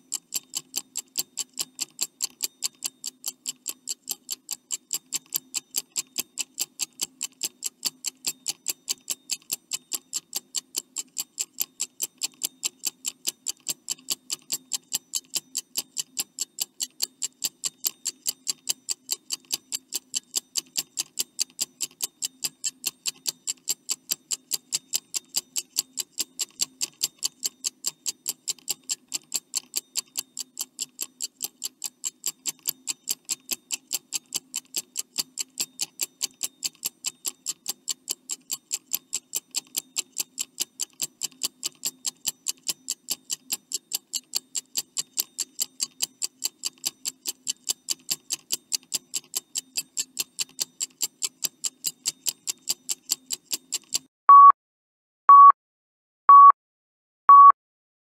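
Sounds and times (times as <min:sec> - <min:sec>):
clock ticking: 0:00.0 - 0:54.1.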